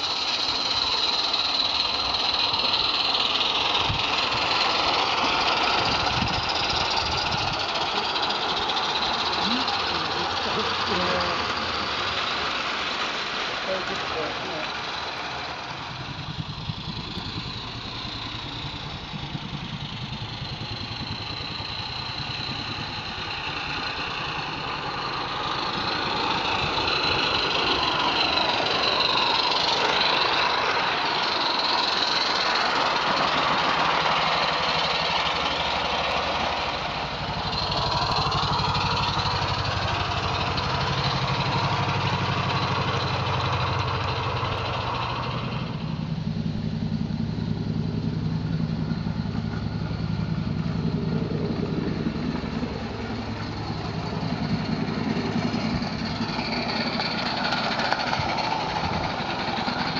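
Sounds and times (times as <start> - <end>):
steam locomotive exhaust beat: 0.0 - 59.9.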